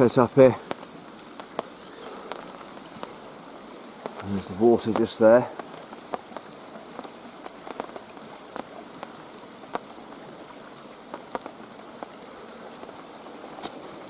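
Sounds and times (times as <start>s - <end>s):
heavy raindrops tapping: 0.0s - 14.0s
stream running: 0.0s - 14.0s.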